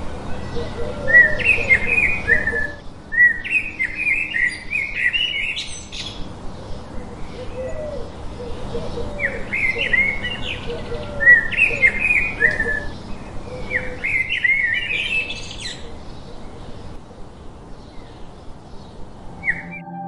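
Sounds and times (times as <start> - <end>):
lower bird chirping call: 0.0 - 20.0
songbirds chirping: 0.0 - 20.0.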